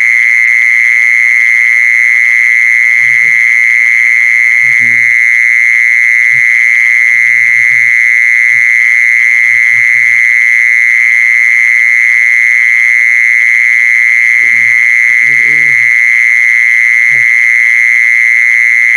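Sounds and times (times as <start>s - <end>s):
insect high-pitched trill: 0.0s - 18.9s.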